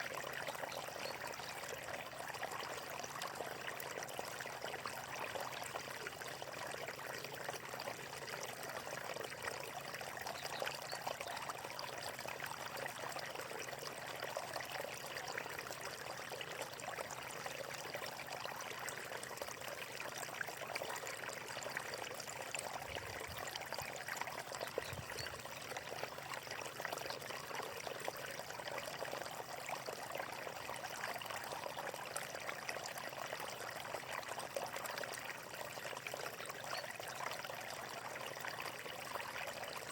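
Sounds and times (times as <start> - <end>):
water flowing and babbling: 0.0 - 39.9.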